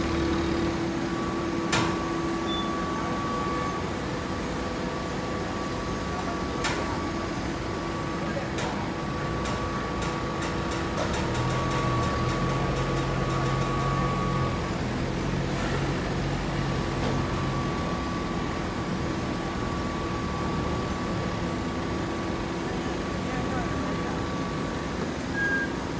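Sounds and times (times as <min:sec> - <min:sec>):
high machine whine: 0:00.0 - 0:25.9
hydraulic baling machinery droning: 0:00.0 - 0:25.9.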